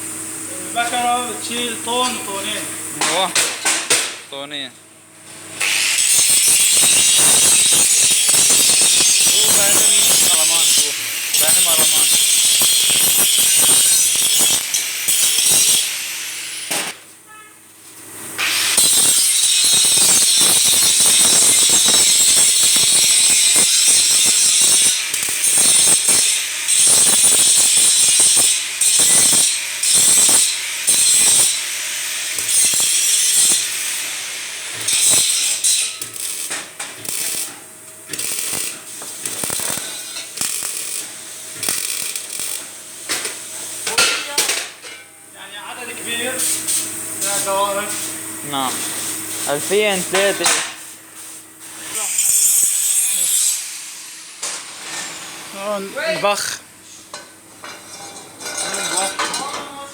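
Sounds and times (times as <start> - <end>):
power tool hissing on sheet steel: 5.6 - 17.0, 18.4 - 44.4, 45.7 - 56.6.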